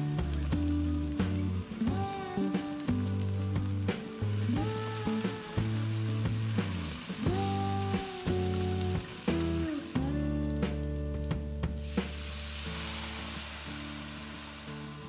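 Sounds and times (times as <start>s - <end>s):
background music with low notes: 0.0s - 15.0s
vegetables sizzling in a wok: 0.0s - 15.0s.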